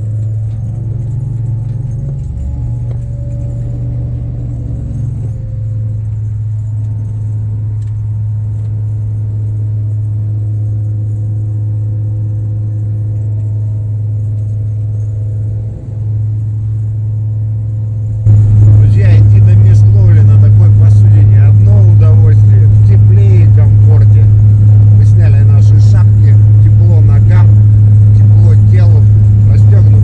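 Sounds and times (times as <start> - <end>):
hovercraft engine drone: 0.0 - 30.0.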